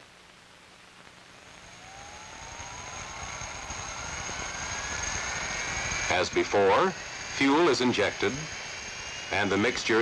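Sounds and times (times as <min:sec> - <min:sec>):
jet engine spooling up: 0:01.6 - 0:10.0.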